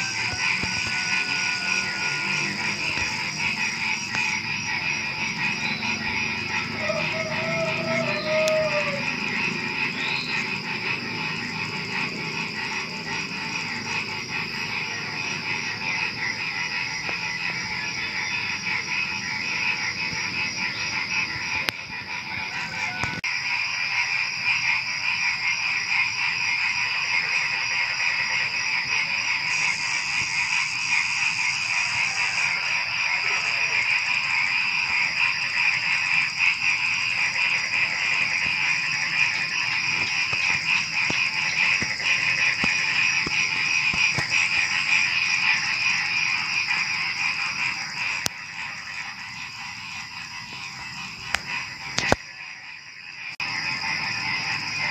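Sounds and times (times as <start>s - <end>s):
crickets trilling: 0.0s - 54.9s
frogs croaking: 0.0s - 54.9s.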